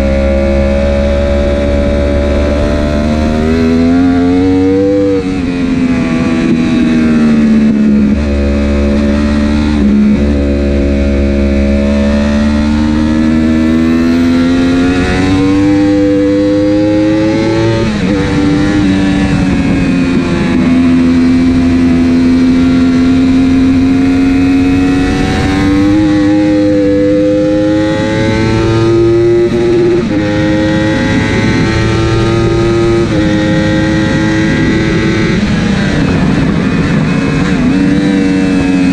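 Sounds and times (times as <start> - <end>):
superbike engine revving: 0.0 - 38.9.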